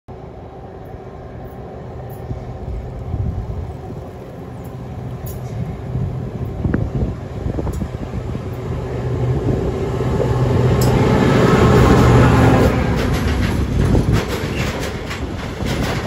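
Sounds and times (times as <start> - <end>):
diesel locomotive engine passing: 0.1 - 16.0
wheels clicking over rail joints: 0.8 - 8.9, 10.2 - 16.0.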